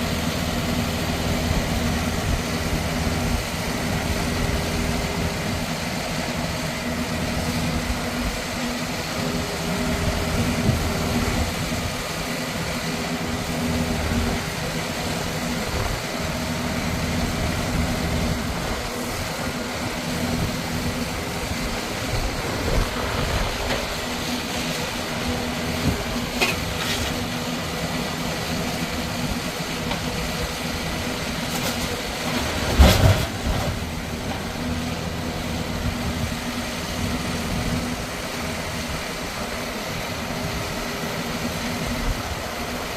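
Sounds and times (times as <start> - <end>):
car crusher engine running: 0.0 - 42.9.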